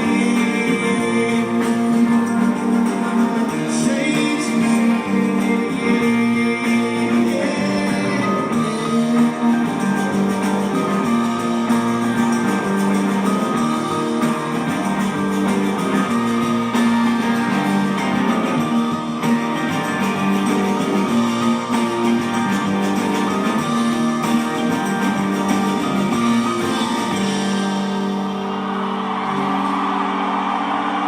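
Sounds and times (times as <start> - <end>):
live rock band playing: 0.0 - 31.0
strummed guitar chords: 0.0 - 31.0.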